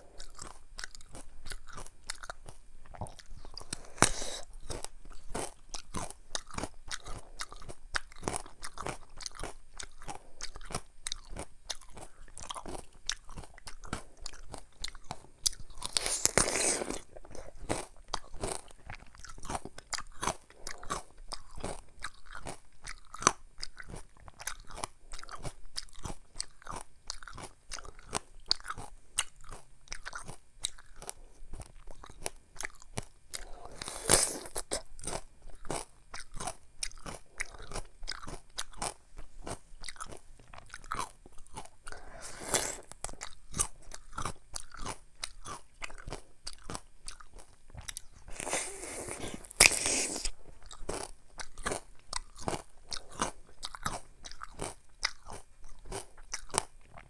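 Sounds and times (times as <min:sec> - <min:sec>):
crunching melon bites: 0:00.1 - 0:57.0.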